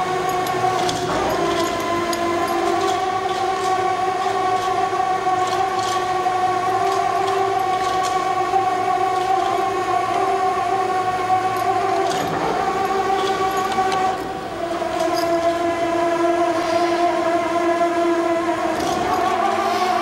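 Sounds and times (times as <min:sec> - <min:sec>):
machine mechanical whine: 0:00.0 - 0:20.0.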